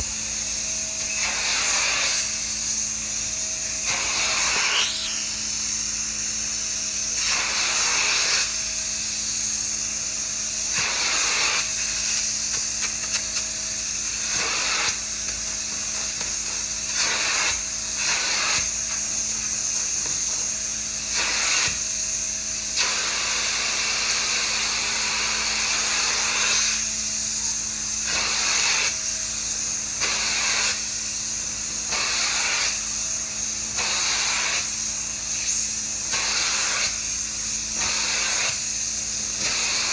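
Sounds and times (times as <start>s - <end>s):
extractor motor hum and hiss: 0.0s - 39.9s.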